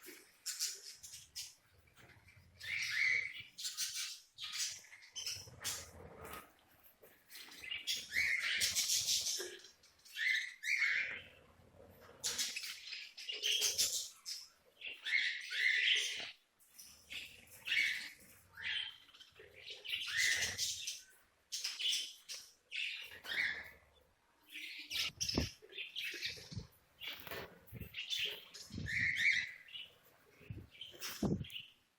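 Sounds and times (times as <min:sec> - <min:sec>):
budgies chirping and chattering: 0:00.0 - 0:31.9.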